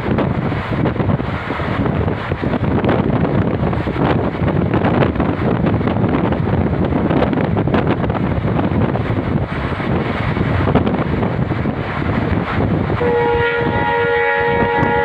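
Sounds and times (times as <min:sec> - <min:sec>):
irregular train clacks: 0:00.0 - 0:15.0
train ride rumbling: 0:00.0 - 0:15.0
wind rushing over microphone: 0:00.0 - 0:15.0.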